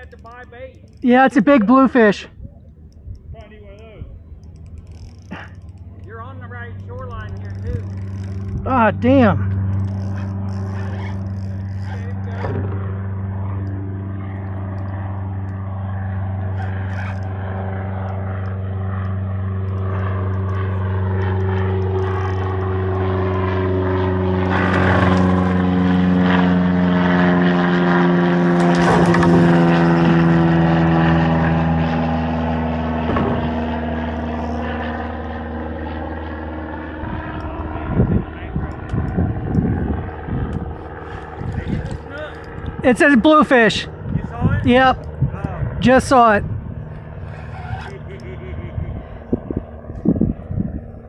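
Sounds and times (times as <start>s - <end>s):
engine drone: 0.0s - 51.0s.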